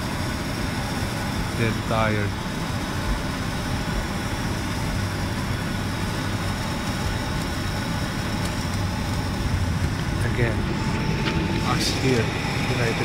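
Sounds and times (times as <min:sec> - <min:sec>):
aircraft cabin ventilation hum: 0:00.0 - 0:13.0.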